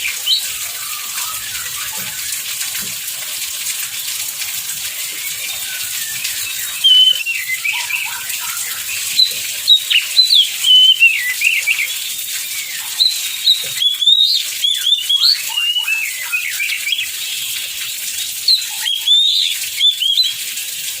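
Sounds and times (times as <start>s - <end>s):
bird singing whistled song: 0.0s - 2.4s, 4.9s - 20.4s
heavy rain: 0.0s - 21.0s.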